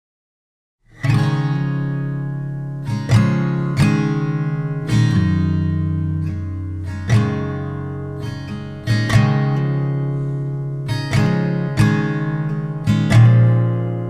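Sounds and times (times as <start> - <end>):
acoustic guitar strumming chords: 0.9 - 14.0.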